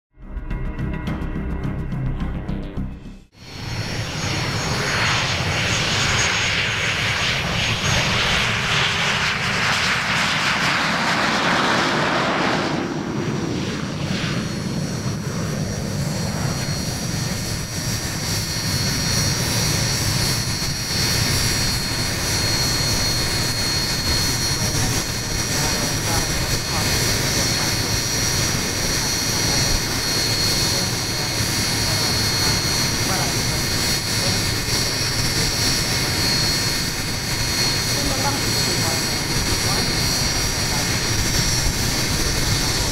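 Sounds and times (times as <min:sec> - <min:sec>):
jet engines whining and roaring: 0:00.7 - 0:42.9.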